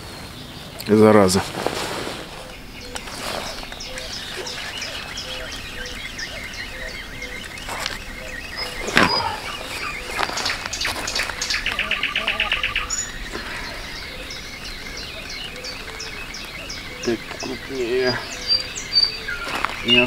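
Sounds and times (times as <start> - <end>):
birds singing: 0.0 - 20.0
bird trill: 2.3 - 20.0.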